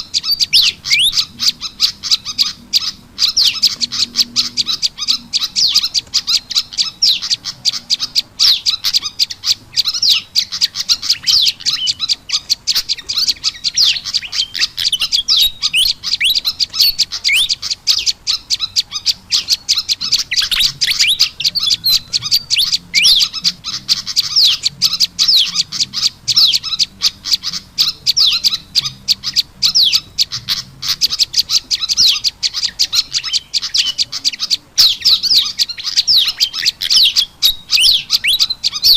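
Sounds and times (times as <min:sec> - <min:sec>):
songbirds chirping rapidly: 0:00.0 - 0:38.9.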